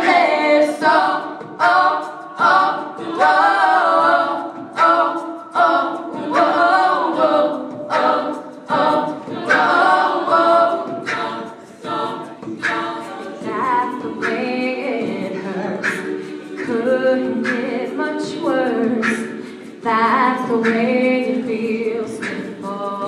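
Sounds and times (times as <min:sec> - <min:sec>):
women singing a cappella harmony: 0:00.0 - 0:23.0.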